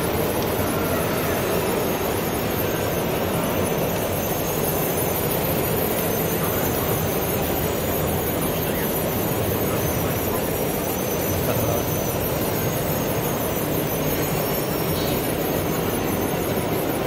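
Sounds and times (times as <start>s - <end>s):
conveyor belt running: 0.0s - 17.0s.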